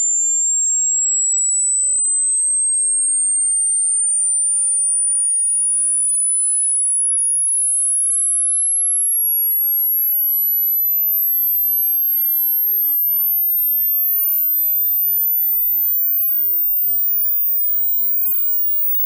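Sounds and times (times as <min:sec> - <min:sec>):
high-pitched sine tone rising: 0:00.0 - 0:06.8, 0:10.2 - 0:19.0.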